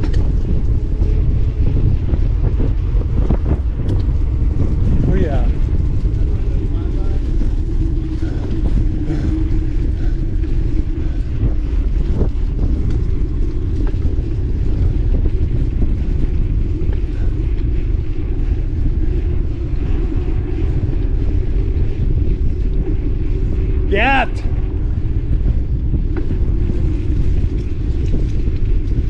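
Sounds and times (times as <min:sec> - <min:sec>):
tyres rolling rumble: 0:00.0 - 0:29.0
wind rushing over microphone: 0:00.0 - 0:29.0.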